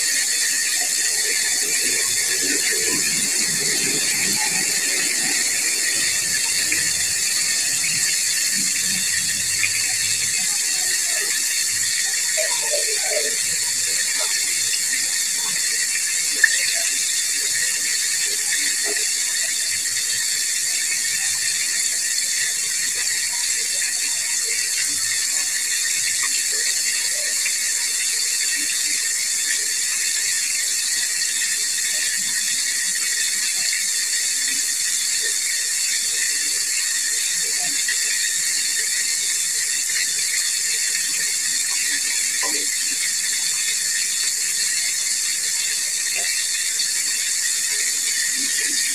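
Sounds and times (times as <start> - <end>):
chicken deep-frying in oil: 0.0 - 48.9.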